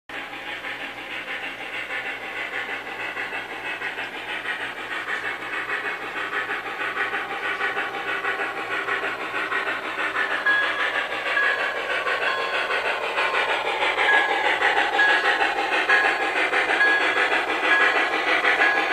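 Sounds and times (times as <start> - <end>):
model steam locomotive chuffing: 0.1 - 18.9.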